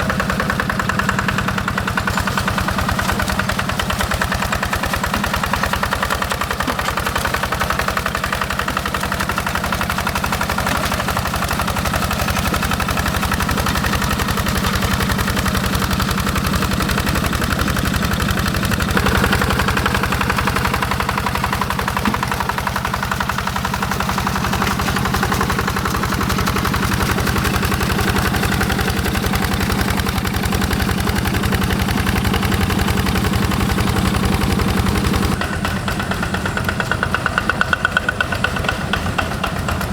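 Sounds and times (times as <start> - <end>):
diesel tractor engine chugging: 0.0 - 39.9.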